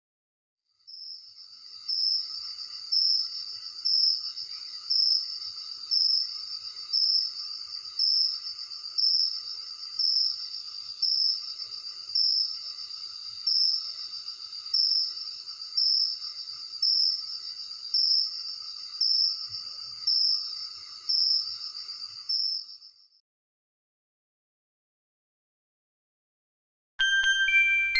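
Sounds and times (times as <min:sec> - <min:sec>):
crickets chirping: 0:00.7 - 0:23.2.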